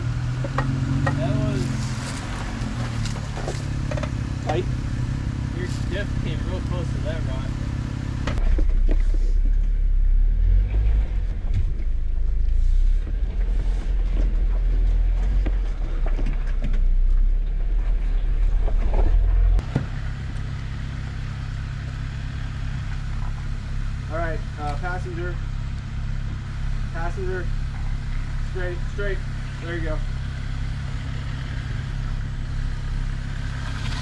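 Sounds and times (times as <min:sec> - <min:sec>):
engine rumbling: 0:00.0 - 0:34.0
steady engine hum: 0:00.0 - 0:34.0.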